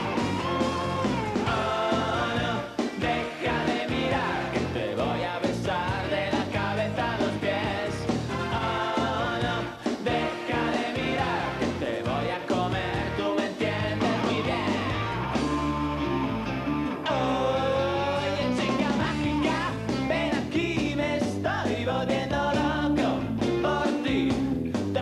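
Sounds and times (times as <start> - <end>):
rock band with drums and guitar: 0.0 - 25.0
man singing: 1.5 - 15.4, 17.0 - 25.0.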